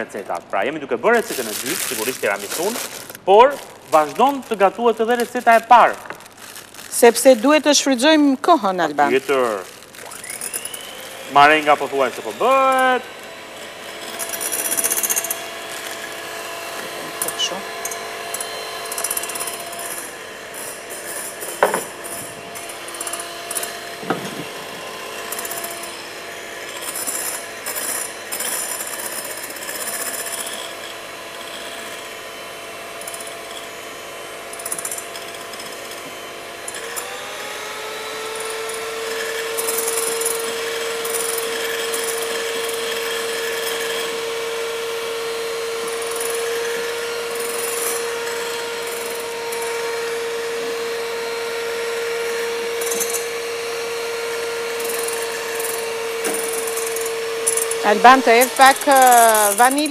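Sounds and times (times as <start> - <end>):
electric hand mixer whining: 0.0 - 59.9.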